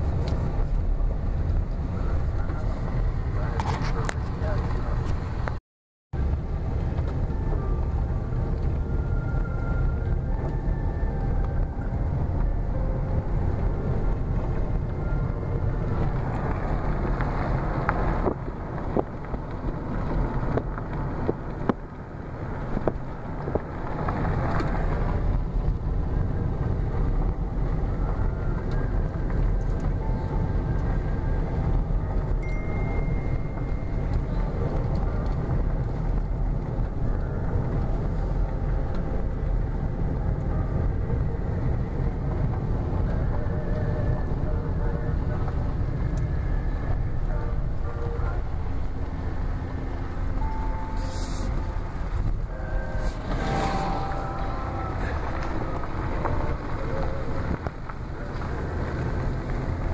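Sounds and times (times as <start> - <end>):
tyres rumbling on gravel: 11.0 - 59.9.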